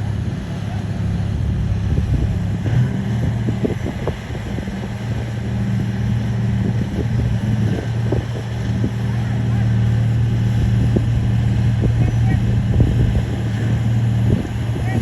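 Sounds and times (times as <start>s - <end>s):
bulldozer diesel engine humming: 0.0s - 15.0s.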